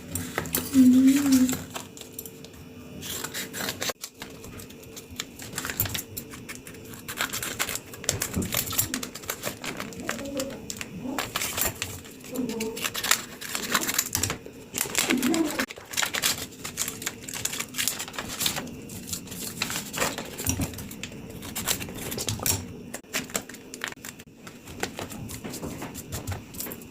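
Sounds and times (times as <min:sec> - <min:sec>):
packaging crinkling and rustling: 0:00.0 - 0:26.9.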